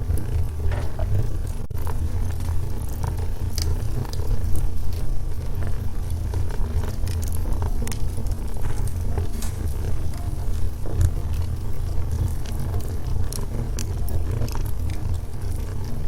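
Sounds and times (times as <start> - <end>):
burning logs crackling and popping: 0.0 - 16.0
fire low rumble: 0.0 - 16.0.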